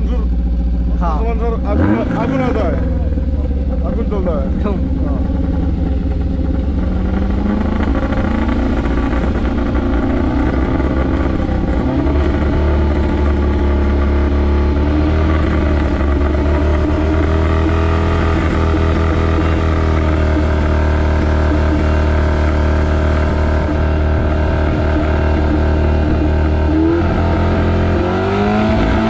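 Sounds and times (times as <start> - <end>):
steady deep drone: 0.0 - 29.0
vehicle engine revving: 0.0 - 29.0.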